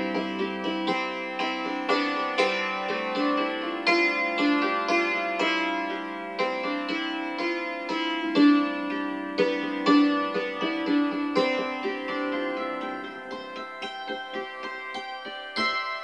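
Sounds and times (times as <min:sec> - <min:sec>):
hammered dulcimer tune: 0:00.0 - 0:16.0.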